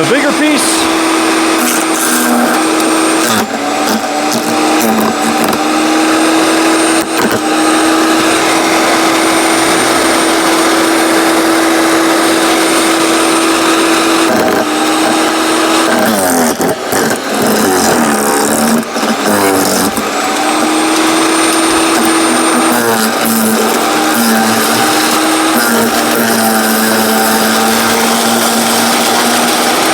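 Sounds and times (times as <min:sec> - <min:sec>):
wood chipper motor whining: 0:00.0 - 0:29.9.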